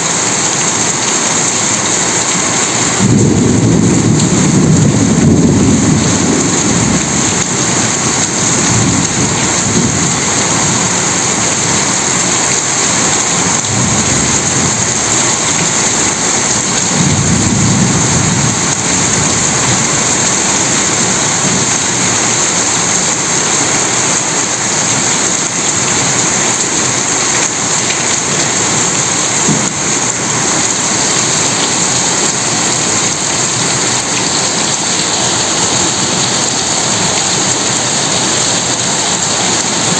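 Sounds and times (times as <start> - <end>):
heavy rain: 0.0 - 39.9
thunder rumbling: 1.6 - 39.9.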